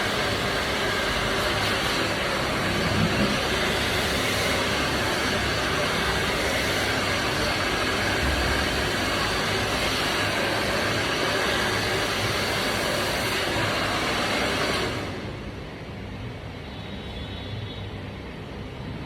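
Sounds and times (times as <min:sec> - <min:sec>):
hair dryer blowing: 0:00.0 - 0:15.5.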